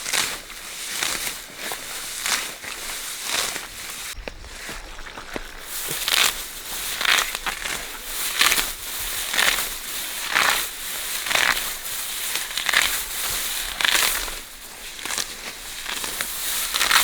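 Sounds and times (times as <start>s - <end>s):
dry vegetation crunching: 0.0s - 17.0s.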